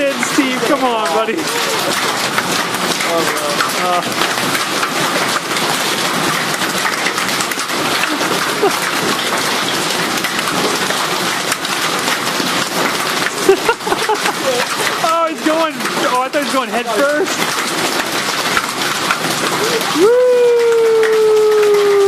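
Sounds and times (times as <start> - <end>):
heavy rain and hail: 0.0 - 22.0.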